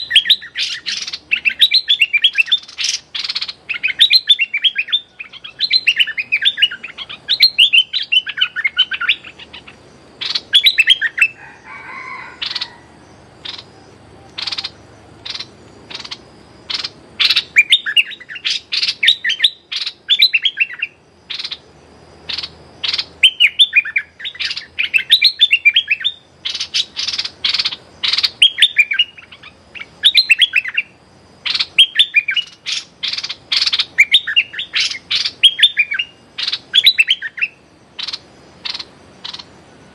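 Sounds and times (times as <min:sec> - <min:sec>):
bird chattering calls: 0:00.0 - 0:39.6.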